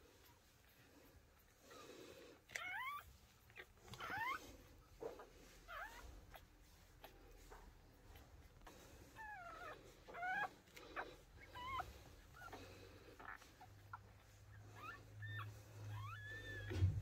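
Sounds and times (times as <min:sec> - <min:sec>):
puppies squealing: 0:02.5 - 0:17.0.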